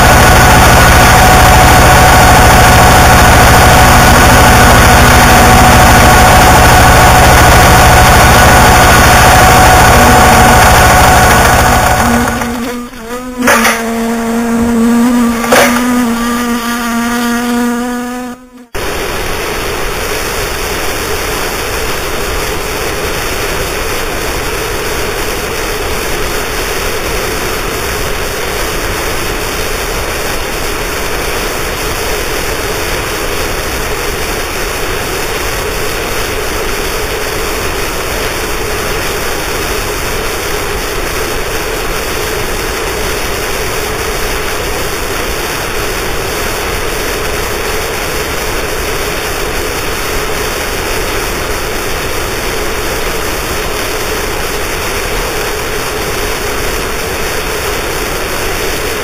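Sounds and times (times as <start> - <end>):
loud low buzzing drone: 0.0 - 59.0
wall of static hiss: 0.0 - 59.0.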